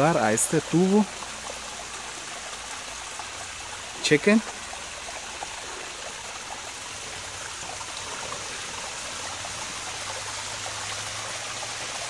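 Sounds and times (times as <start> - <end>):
water trickling in pipe: 0.0 - 12.0.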